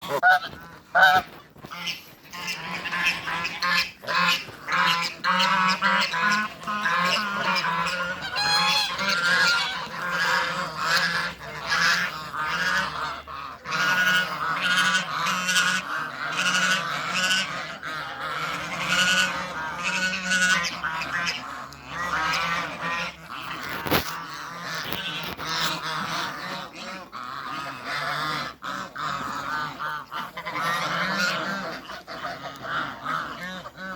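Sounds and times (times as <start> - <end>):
geese honking: 0.0 - 33.9.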